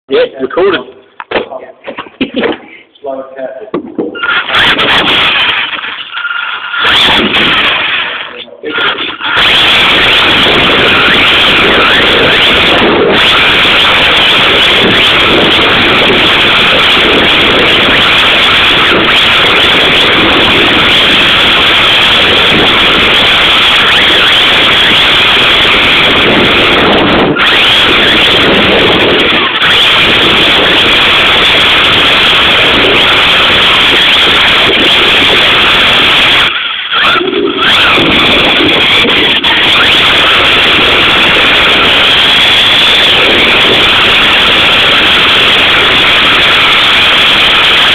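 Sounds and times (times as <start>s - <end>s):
radio-controlled car motor: 4.2s - 47.9s.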